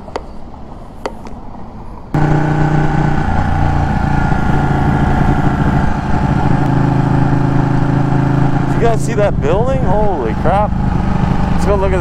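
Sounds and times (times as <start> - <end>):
motorcycle engine riding: 2.1 - 12.0.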